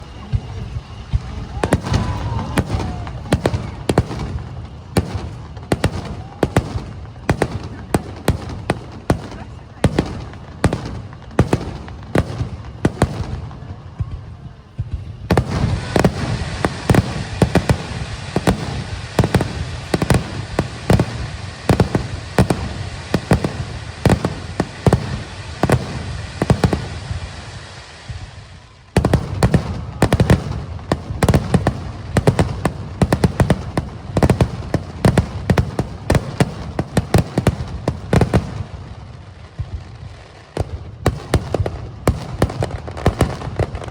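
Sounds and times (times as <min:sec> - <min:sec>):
fireworks booming: 0:00.0 - 0:43.9
fireworks crackling: 0:00.0 - 0:43.9.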